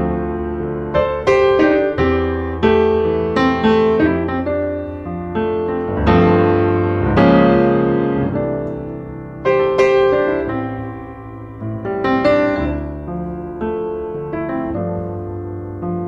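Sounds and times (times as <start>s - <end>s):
piano chords ringing out: 0.0s - 16.0s.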